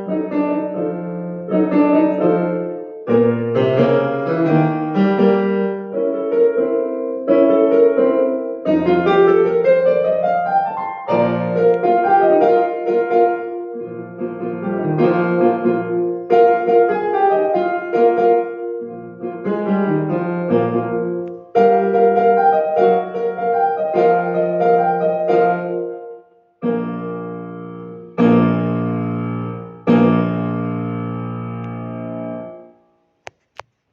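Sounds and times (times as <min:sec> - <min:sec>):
solo piano piece: 0:00.0 - 0:32.9.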